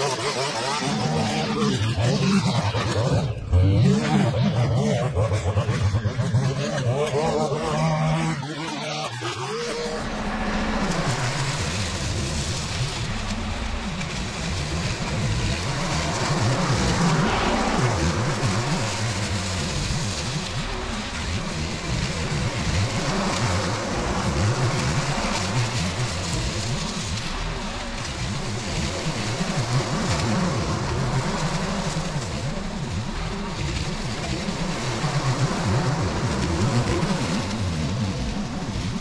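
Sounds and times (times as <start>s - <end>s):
lawn mower cutting grass: 0.0s - 39.0s.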